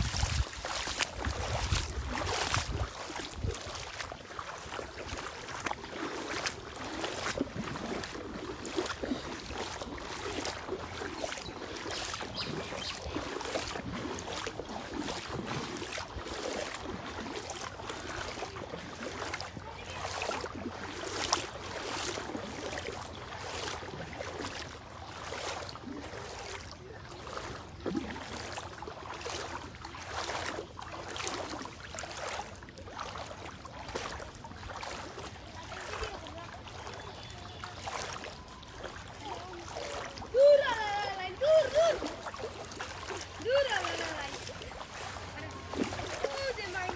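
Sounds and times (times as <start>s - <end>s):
wind and water noise: 0.0s - 46.9s.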